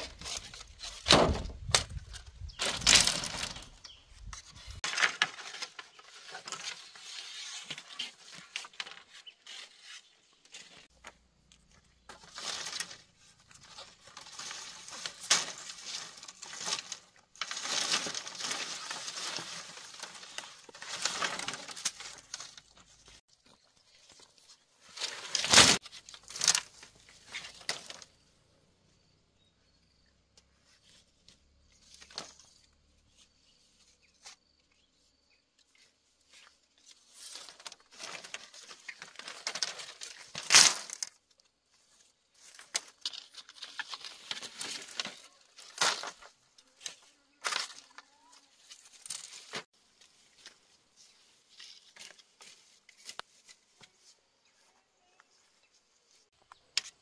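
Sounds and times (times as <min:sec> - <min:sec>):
bamboo poles clattering: 0:00.0 - 0:28.2, 0:30.4 - 0:34.6, 0:35.6 - 0:54.2
bamboo rustling and scraping: 0:00.0 - 0:57.0.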